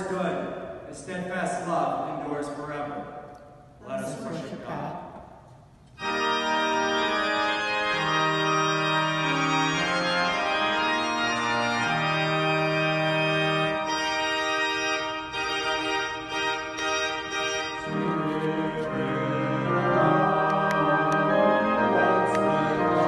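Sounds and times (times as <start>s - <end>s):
pipe organ chords: 0.0s - 23.0s.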